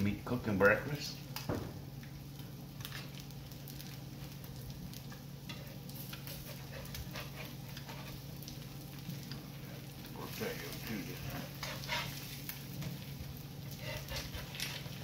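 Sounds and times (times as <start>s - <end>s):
eggs sizzling on griddle: 0.0s - 15.0s
small crackles and pops: 0.0s - 15.0s.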